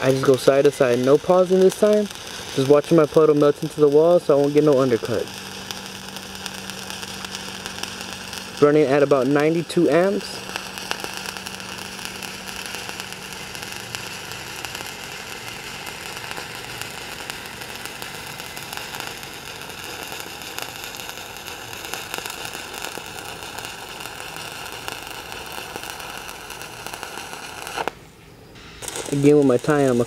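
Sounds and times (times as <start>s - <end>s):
welding arc crackling and hissing: 0.0s - 30.0s.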